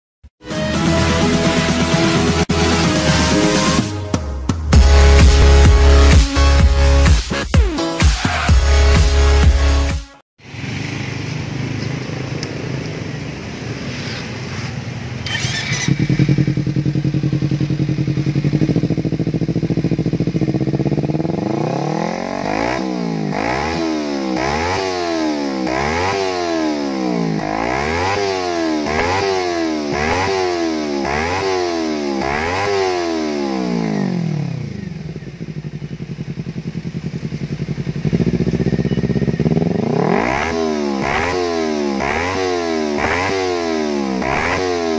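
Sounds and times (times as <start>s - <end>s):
engine idling and revving: 0.9s - 44.9s.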